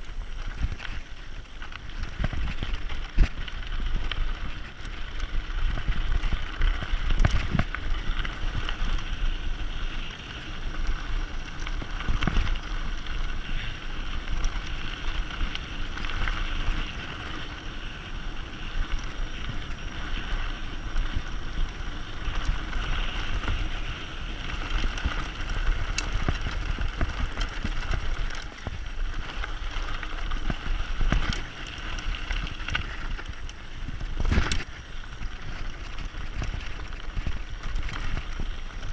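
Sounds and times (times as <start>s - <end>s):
tyres rolling over dirt and stones: 0.0s - 38.9s.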